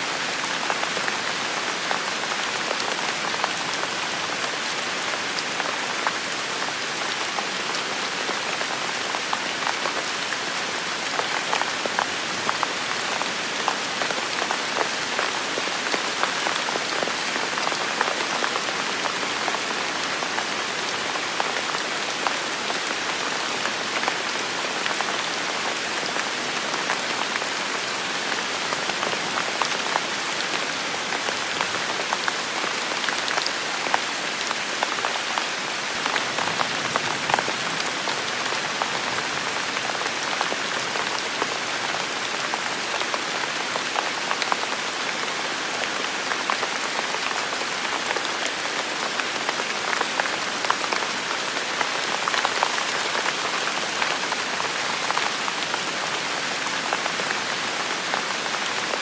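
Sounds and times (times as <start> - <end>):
heavy rain on forest: 0.0 - 59.0.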